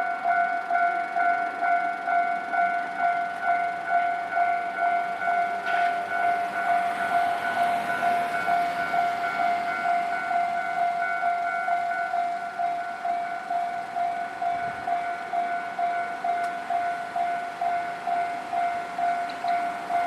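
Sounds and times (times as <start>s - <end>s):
level-crossing warning bell ringing: 0.0s - 20.0s
train running noise: 0.0s - 20.0s.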